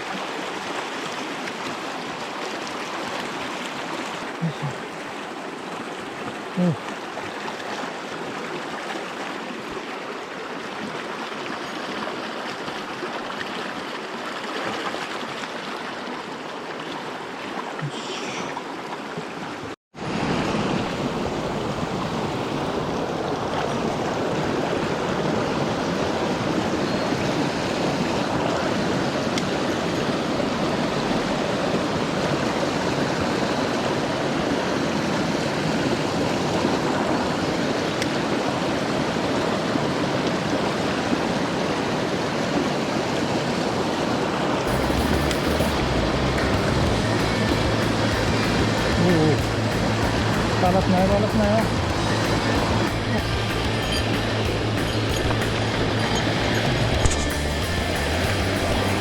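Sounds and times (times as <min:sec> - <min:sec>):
mountain stream running: 0:00.0 - 0:59.0.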